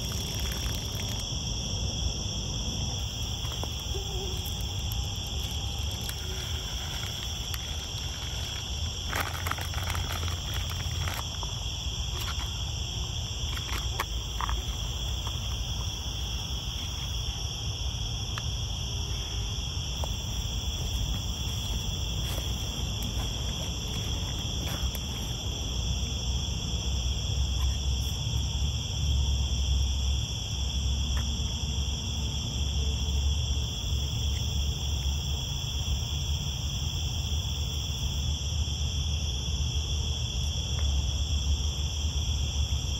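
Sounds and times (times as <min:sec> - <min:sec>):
night insects trilling: 0:00.0 - 0:42.9.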